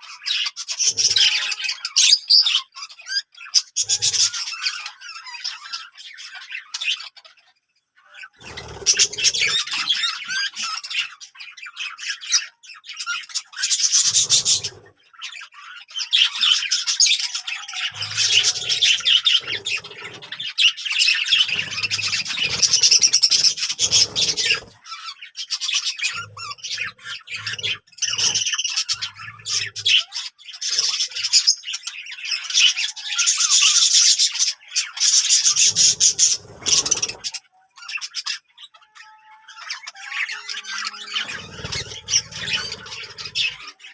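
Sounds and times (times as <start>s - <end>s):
parrots chattering and squawking: 0.0s - 43.9s.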